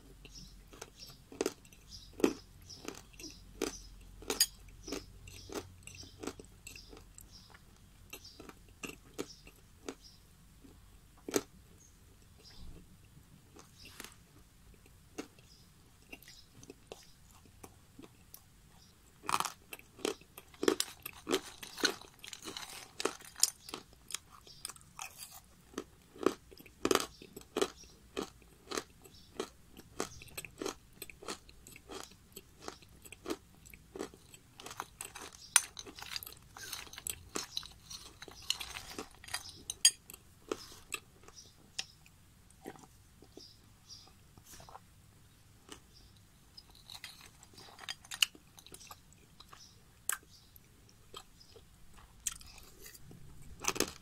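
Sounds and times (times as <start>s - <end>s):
crunchy chewing: 0.0s - 54.0s.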